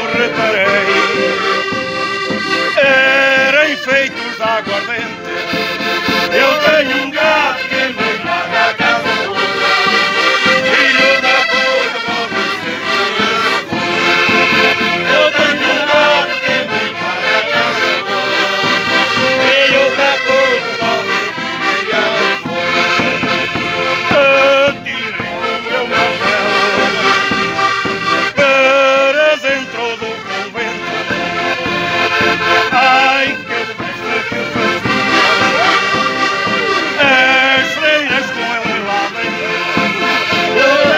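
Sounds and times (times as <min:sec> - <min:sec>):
bass drum beating: 0:00.0 - 0:40.9
button accordions playing folk tune: 0:00.0 - 0:40.9.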